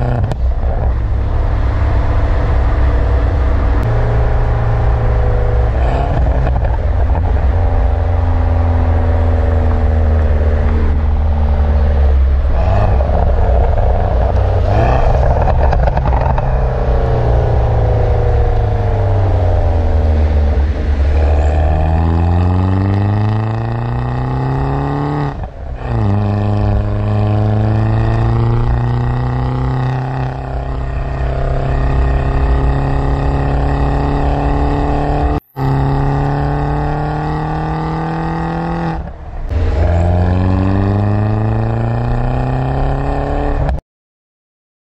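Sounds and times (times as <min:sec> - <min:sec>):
car engine revving: 0:00.0 - 0:43.8.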